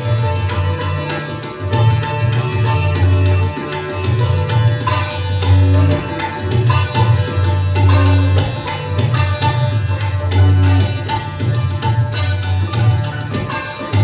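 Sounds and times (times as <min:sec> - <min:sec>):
sitar playing: 0:00.0 - 0:14.0
tabla drum strokes: 0:00.0 - 0:14.0.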